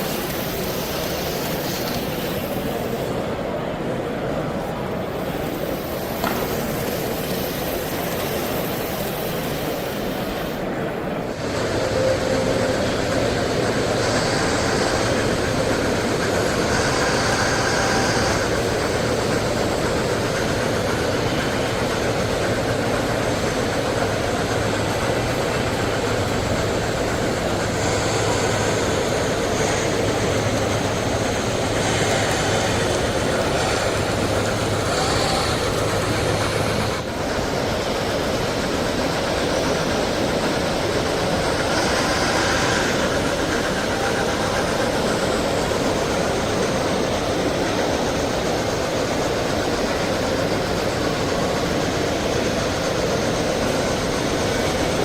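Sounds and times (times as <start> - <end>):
model trains rumbling: 0.0 - 55.0.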